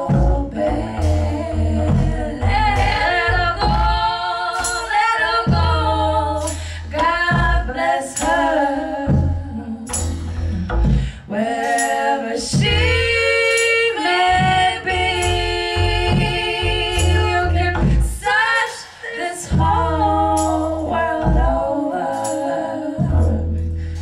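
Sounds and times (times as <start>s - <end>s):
women singing in harmony: 0.0s - 24.0s.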